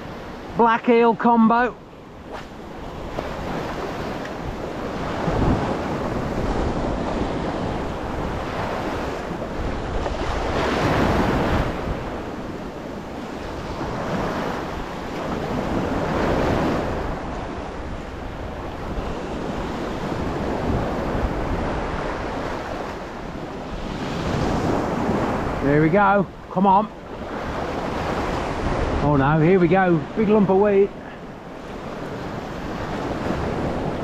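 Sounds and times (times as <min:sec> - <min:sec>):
sea waves on rocky shore: 0:00.0 - 0:34.0
wind buffeting microphone: 0:01.8 - 0:34.0.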